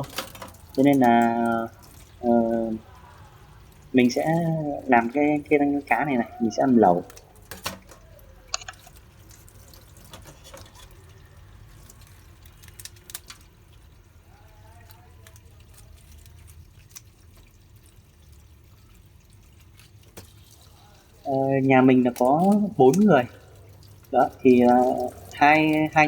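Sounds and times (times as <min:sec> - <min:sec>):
water dripping: 0:00.0 - 0:26.0.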